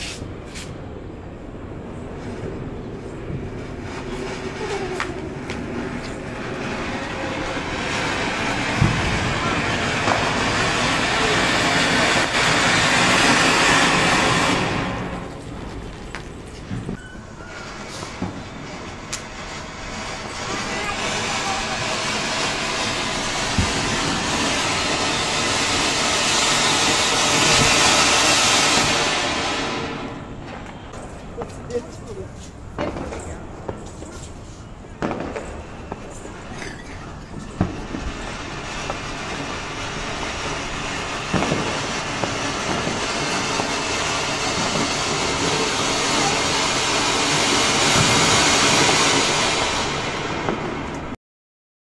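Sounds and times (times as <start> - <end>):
firework crackles: 0.0 - 51.2
firework fountain hissing: 0.0 - 51.2.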